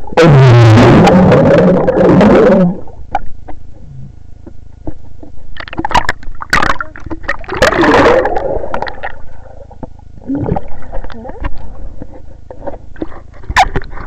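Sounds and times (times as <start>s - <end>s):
water sloshing underwater: 0.9s - 14.0s.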